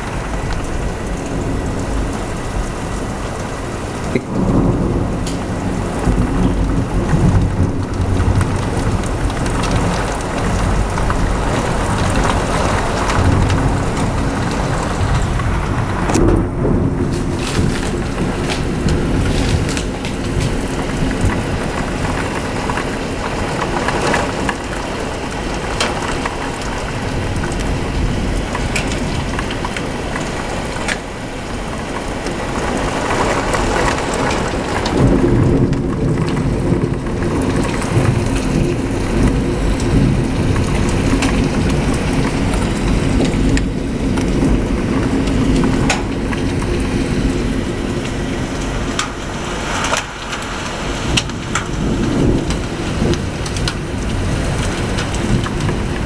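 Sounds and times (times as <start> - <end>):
deep thunder rumble: 0.0 - 56.0
heavy rain falling: 0.0 - 56.0
sharp raindrop hits: 0.0 - 56.0.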